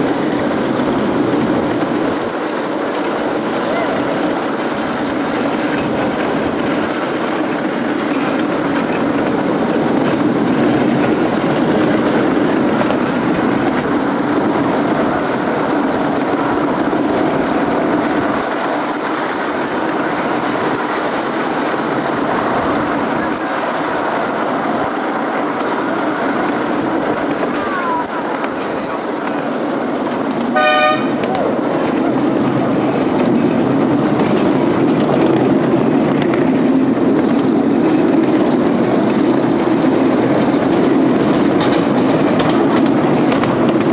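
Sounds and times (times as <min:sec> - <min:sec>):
train wheels rumbling on rails: 0:00.0 - 0:43.9
wheel clatter: 0:00.0 - 0:43.9.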